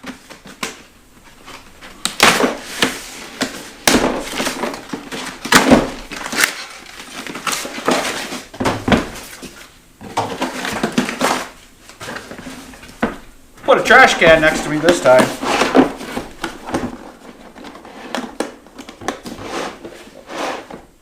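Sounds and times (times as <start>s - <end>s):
cardboard packaging rustling and tearing: 0.1s - 13.0s, 13.7s - 20.8s.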